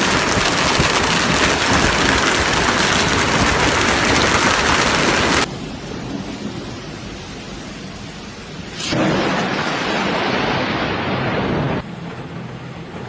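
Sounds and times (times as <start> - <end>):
loud steady rushing noise: 0.0 - 13.0.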